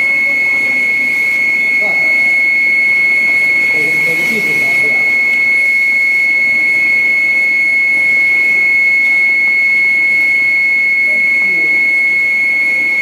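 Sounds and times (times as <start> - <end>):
cutting plotter whine: 0.0 - 13.0.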